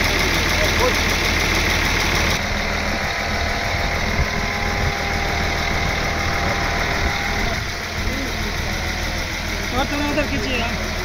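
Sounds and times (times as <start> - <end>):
large engine idling: 0.0 - 11.0.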